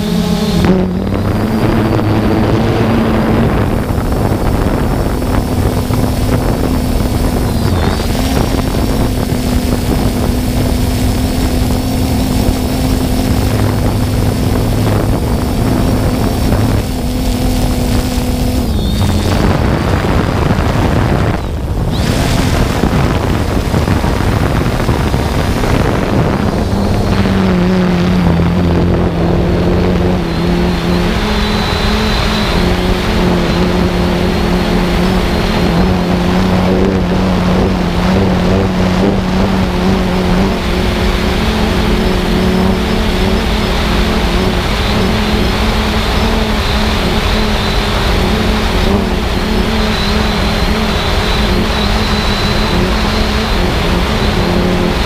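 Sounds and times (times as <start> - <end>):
drone propellers humming: 0.0 - 55.0
rushing wind noise: 0.0 - 55.0.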